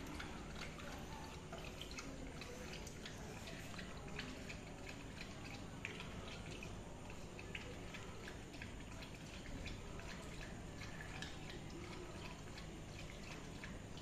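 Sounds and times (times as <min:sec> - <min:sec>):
dog lapping water: 0:00.0 - 0:14.0.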